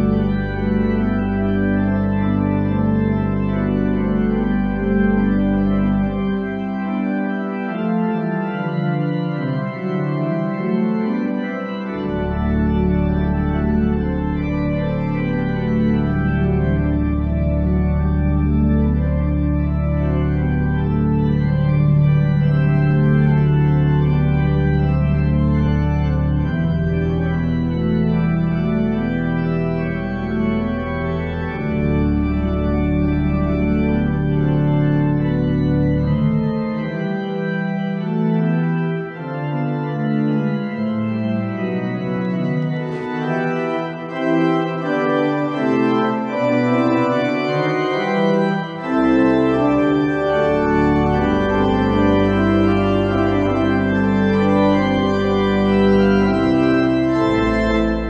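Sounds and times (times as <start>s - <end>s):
church organ chords: 0.0s - 58.0s
deep organ pedal bass: 0.0s - 58.0s.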